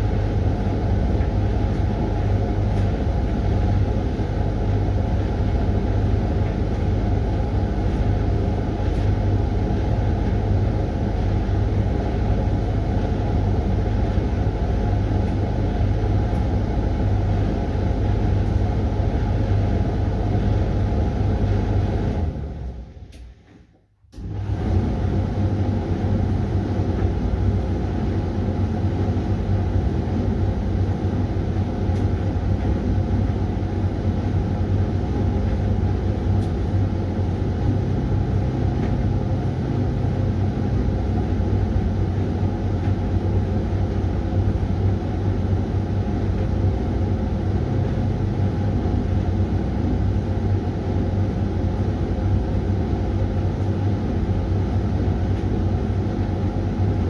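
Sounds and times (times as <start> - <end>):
washing machine rumbling: 0.0 - 57.0.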